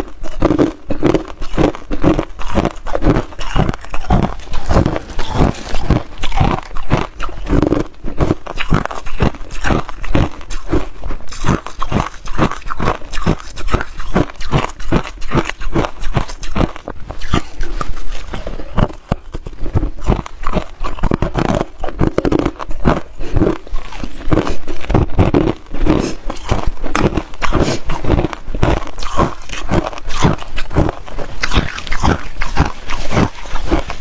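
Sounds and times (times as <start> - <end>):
chewing crushed ice: 0.0 - 34.0.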